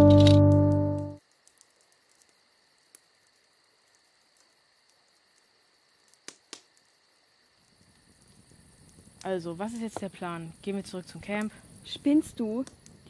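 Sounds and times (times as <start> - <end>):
campfire crackles: 0.1 - 13.0
crickets trilling: 1.1 - 13.0.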